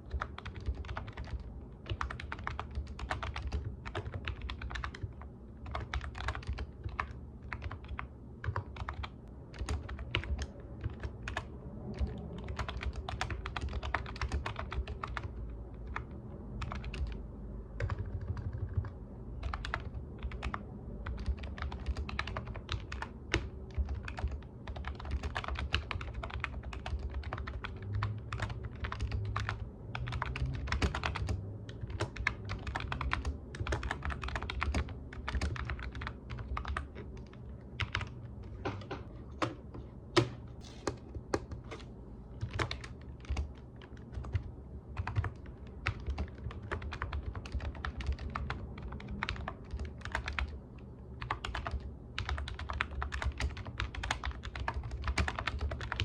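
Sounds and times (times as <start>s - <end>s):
typing on computer keyboard: 0.0s - 17.2s, 17.8s - 39.6s, 42.4s - 56.0s.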